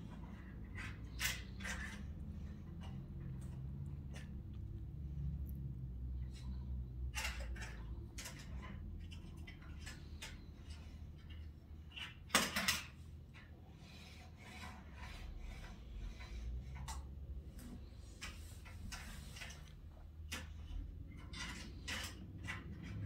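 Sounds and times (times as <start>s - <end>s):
toy cars clicking and scraping: 0.0s - 5.6s, 6.2s - 23.0s.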